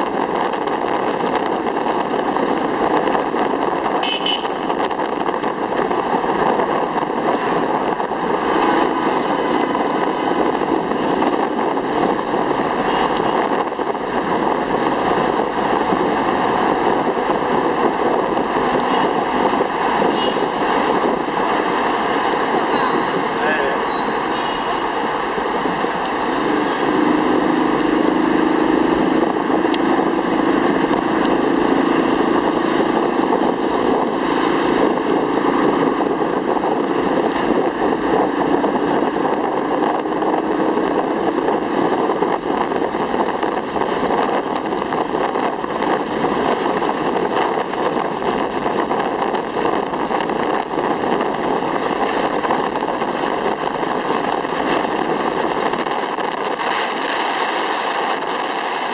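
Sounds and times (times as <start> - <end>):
wind and road noise: 0.0 - 58.9.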